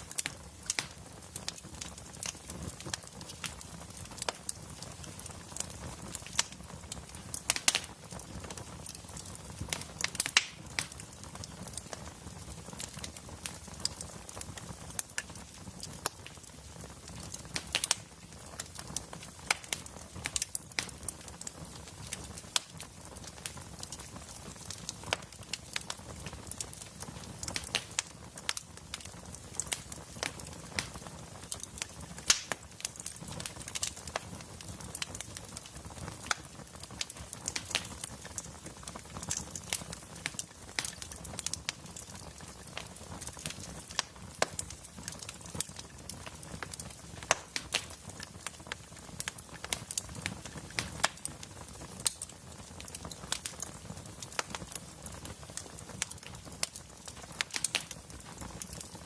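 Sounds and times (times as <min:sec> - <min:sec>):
wood fire popping and snapping: 0:00.0 - 0:59.0.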